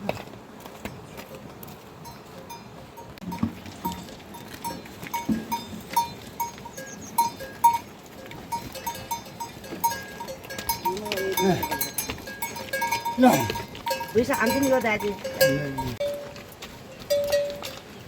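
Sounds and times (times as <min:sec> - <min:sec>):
livestock bells clanking: 0:02.0 - 0:18.0.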